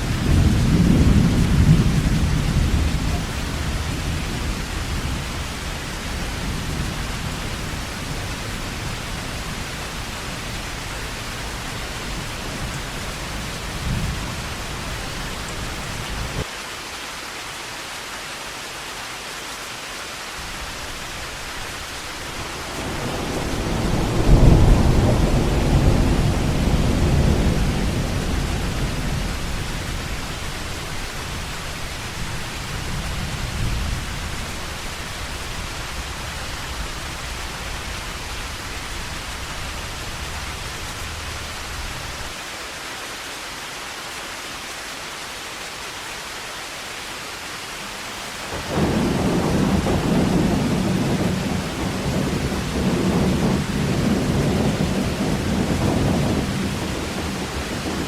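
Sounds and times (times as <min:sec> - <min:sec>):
thunder rumbling: 0:00.0 - 0:16.4, 0:20.6 - 0:42.3, 0:48.5 - 0:58.0
heavy rain falling: 0:00.0 - 0:58.0.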